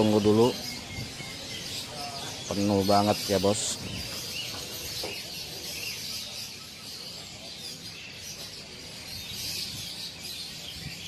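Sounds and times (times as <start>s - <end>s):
songbirds chirping in chorus: 0.0s - 11.0s.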